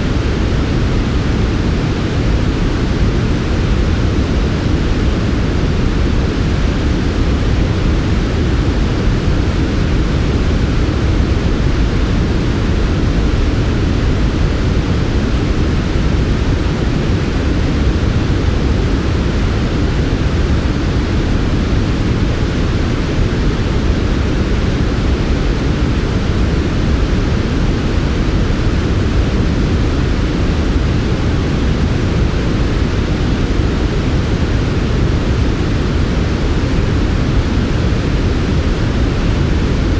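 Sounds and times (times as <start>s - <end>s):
low smooth white noise: 0.0s - 39.9s.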